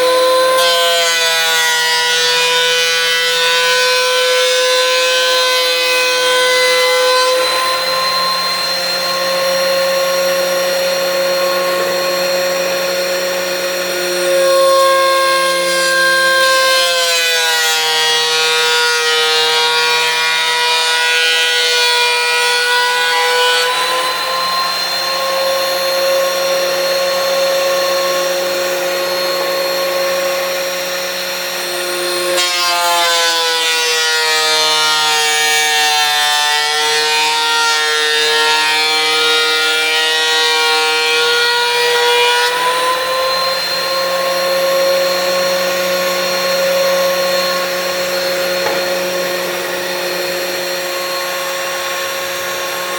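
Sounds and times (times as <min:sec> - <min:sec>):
planer cutting wood: 0:00.0 - 0:52.9
thickness planer motor whine: 0:00.0 - 0:52.9.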